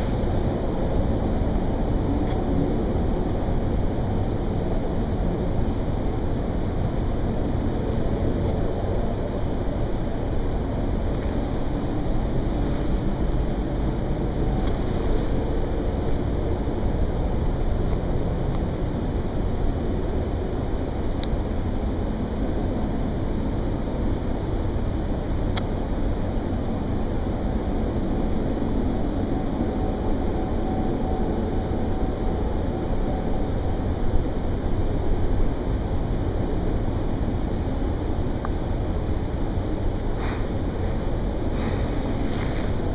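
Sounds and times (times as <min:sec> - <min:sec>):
deep rumbling drone: 0:00.0 - 0:42.9.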